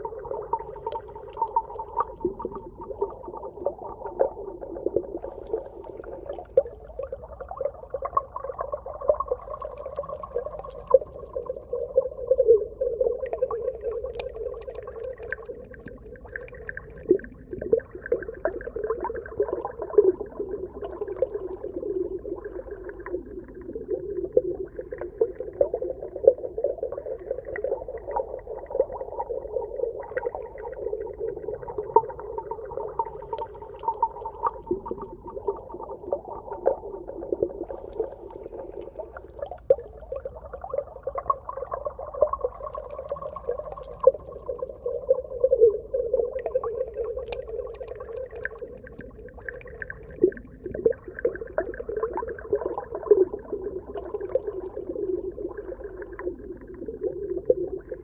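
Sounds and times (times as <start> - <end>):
underwater clicks and crackles: 0.0 - 58.0.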